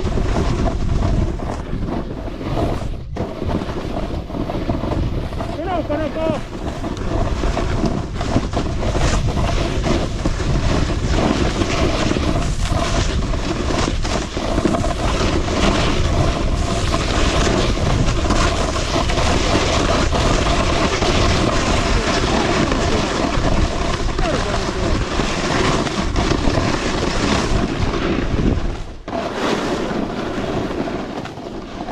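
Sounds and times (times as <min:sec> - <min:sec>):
skis scraping on icy snow: 0:00.0 - 0:31.9
wind rushing over microphone: 0:00.0 - 0:31.9.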